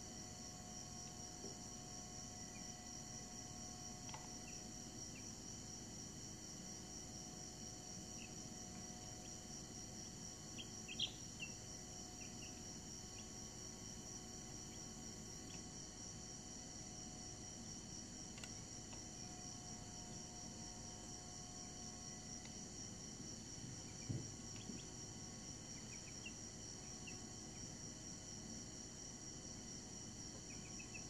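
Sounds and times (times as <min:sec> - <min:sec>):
steady high-pitched hiss: 0:00.0 - 0:31.0.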